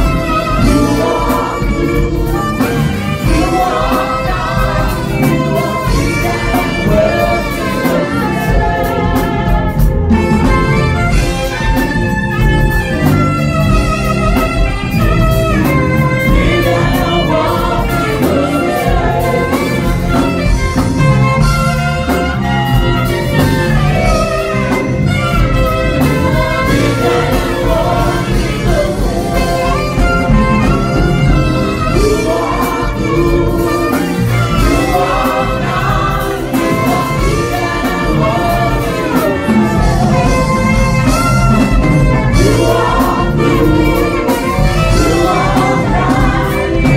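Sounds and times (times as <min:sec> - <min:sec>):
backing music with steady beat: 0:00.0 - 0:46.9
saxophones playing melody: 0:00.0 - 0:46.9.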